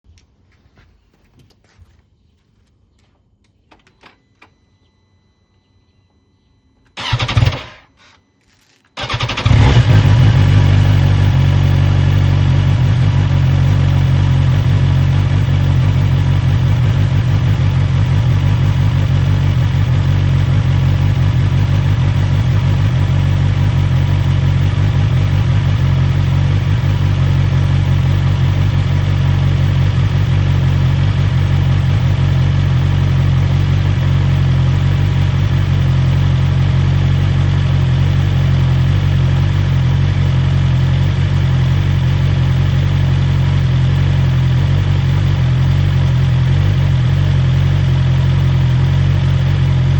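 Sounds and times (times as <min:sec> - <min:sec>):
motorcycle engine starting and idling: 0:06.9 - 0:49.9.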